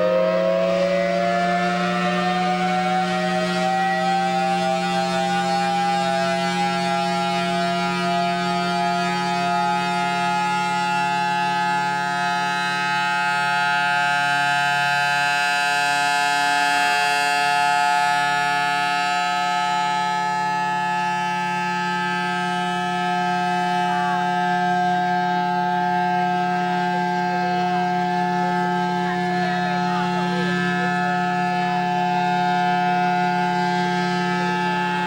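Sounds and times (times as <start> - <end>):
warning siren steady tone: 0.0 - 35.0.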